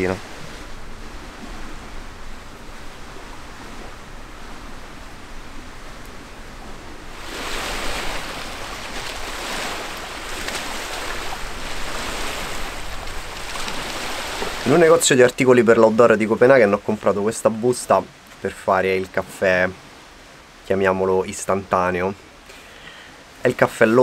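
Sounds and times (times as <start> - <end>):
lake water washing against shore: 0.0 - 20.1
wind: 0.0 - 24.0.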